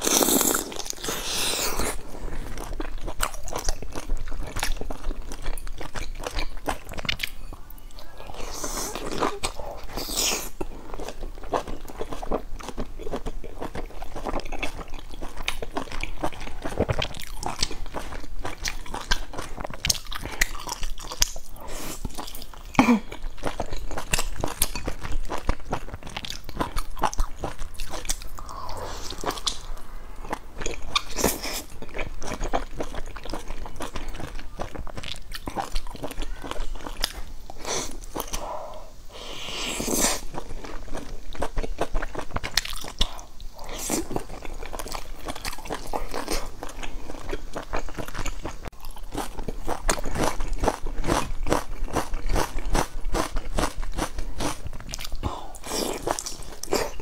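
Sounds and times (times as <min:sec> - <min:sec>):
chewing steamed buns: 0:00.0 - 0:57.0.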